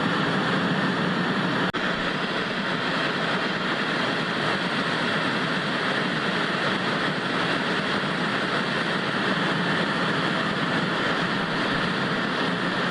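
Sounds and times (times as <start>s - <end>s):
television static hiss: 0.0s - 12.9s.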